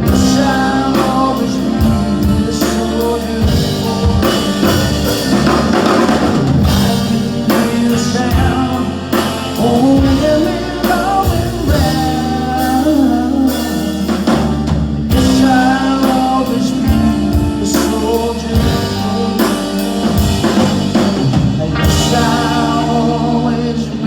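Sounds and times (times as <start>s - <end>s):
rock band playing a ballad: 0.0s - 24.0s
wavering lead melody: 0.0s - 24.0s.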